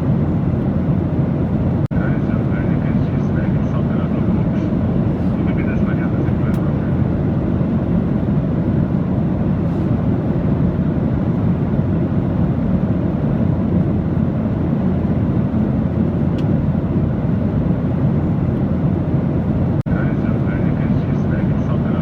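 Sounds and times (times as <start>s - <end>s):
aircraft rumble: 0.0s - 22.0s.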